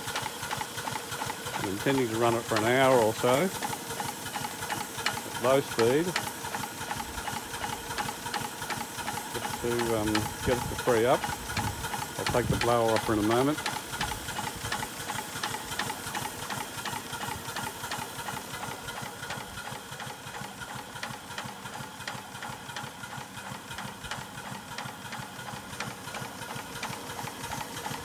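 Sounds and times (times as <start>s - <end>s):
steam engine clattering: 0.0s - 28.0s.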